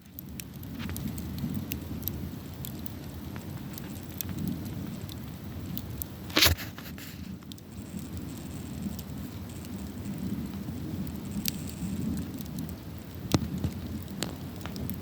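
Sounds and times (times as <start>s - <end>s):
burning wood crackling and popping: 0.0s - 15.0s
campfire flames rumbling: 0.0s - 15.0s.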